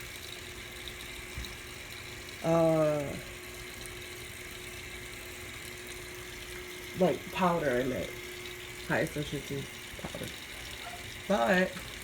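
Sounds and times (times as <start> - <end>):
faint machine hum: 0.0 - 12.0
water running into drum: 0.0 - 12.0.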